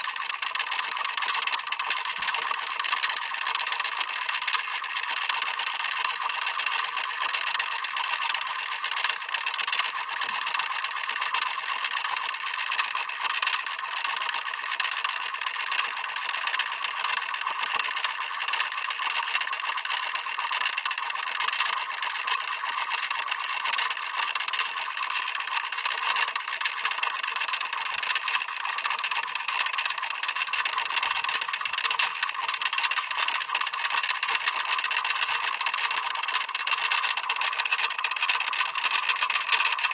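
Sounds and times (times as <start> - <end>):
clock ticking rapidly: 0.0 - 39.9.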